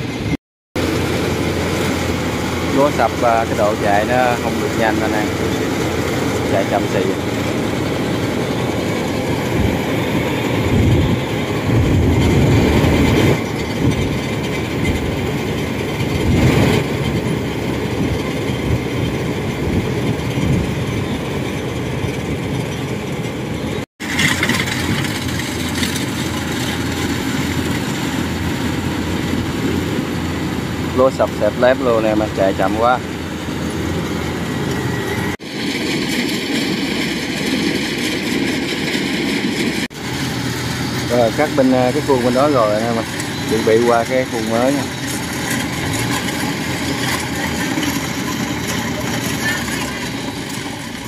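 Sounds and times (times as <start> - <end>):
combine harvester clattering: 0.0 - 51.0.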